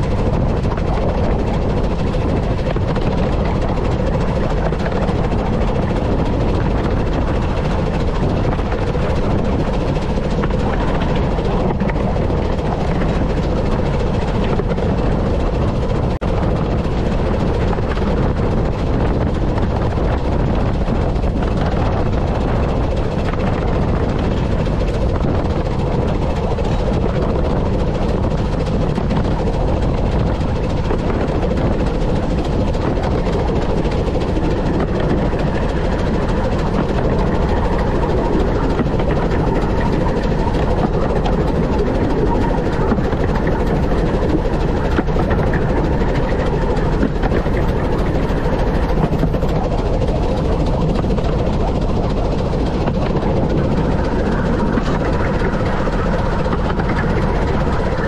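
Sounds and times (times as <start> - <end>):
steam train rumbling on rails: 0.0 - 58.0.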